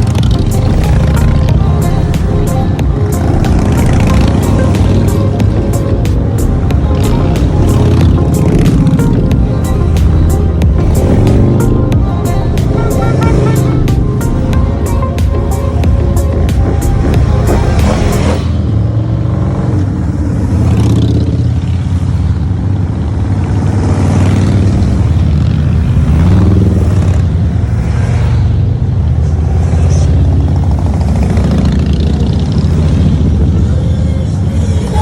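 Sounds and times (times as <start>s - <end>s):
motorcycle engine running: 0.0s - 27.6s, 30.1s - 35.0s
wind and road noise: 0.0s - 35.0s.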